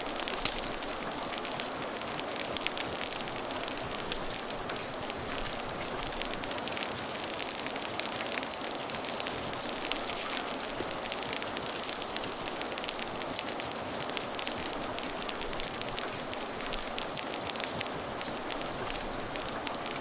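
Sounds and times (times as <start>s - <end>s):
fire crackling and popping: 0.0s - 20.0s
rain hiss: 0.0s - 20.0s.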